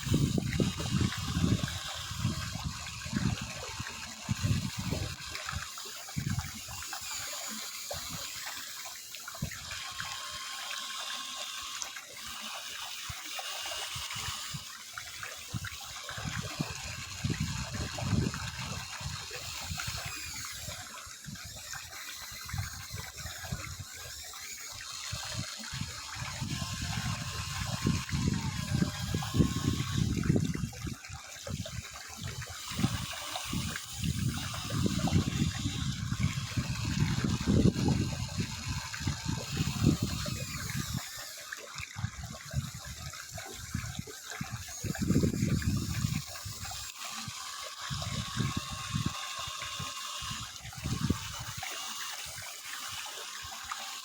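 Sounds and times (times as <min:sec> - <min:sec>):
gushing pump-like rush: 0:00.0 - 0:54.0
model excavator motors whining: 0:00.0 - 0:54.0.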